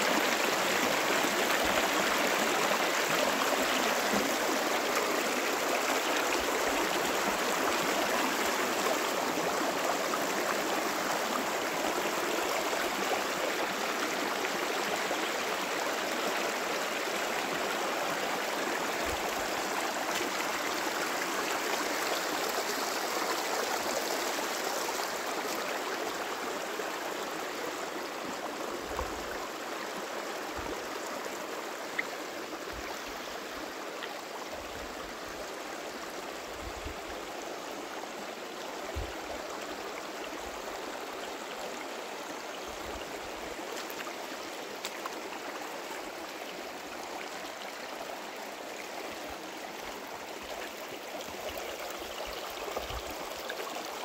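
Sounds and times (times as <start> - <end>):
river water over stones: 0.0 - 54.0.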